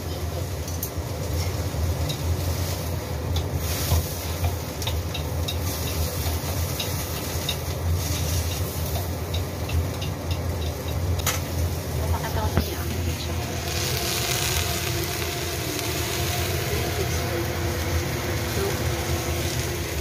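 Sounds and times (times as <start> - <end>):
food sizzling in frying pan: 0.0 - 20.0.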